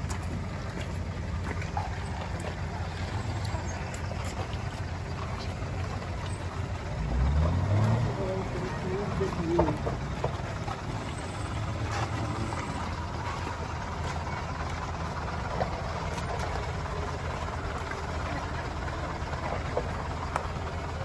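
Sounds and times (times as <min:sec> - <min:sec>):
bus diesel engine running under load: 0:00.0 - 0:21.0.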